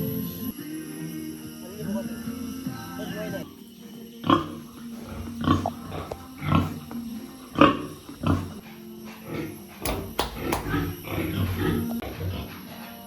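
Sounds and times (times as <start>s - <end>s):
pigs grunting and squealing: 1.8s - 13.0s.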